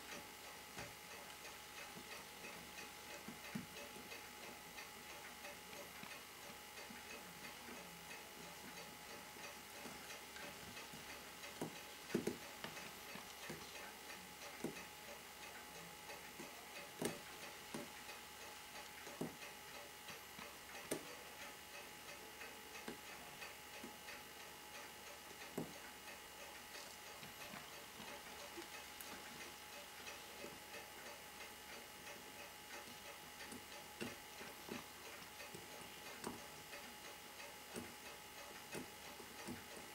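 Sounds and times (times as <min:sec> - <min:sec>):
watch ticking: 0:00.0 - 0:39.9.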